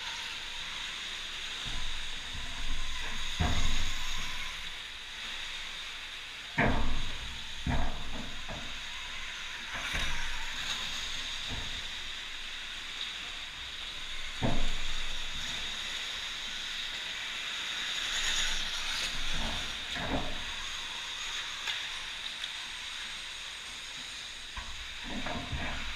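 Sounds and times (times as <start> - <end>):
electric motorbike hiss: 0.0 - 25.9.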